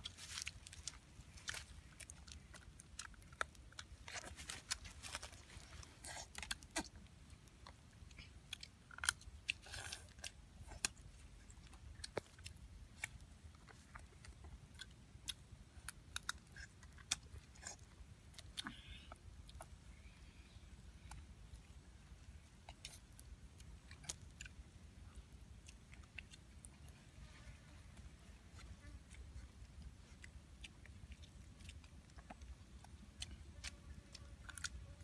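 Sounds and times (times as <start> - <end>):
chewing and crunching: 0.0 - 35.0
faint low rumble: 0.0 - 35.0.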